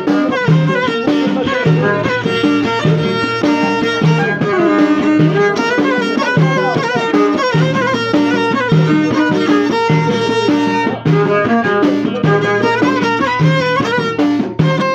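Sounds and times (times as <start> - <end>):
low drum beat: 0.0 - 14.9
violin melody: 0.0 - 14.9.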